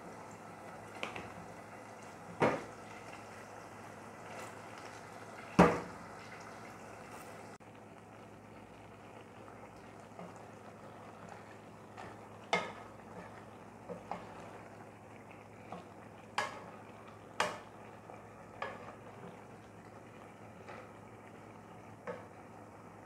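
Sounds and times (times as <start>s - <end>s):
food sizzling: 0.0s - 23.0s.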